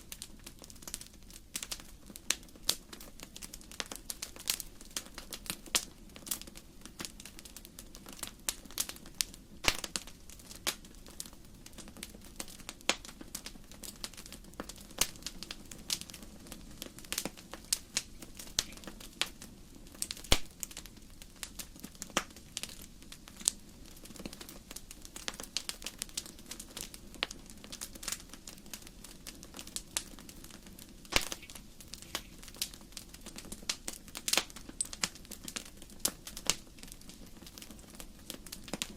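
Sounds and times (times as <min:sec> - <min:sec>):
burning logs popping: 0:00.0 - 0:38.9
low rumble of flames: 0:00.0 - 0:38.9.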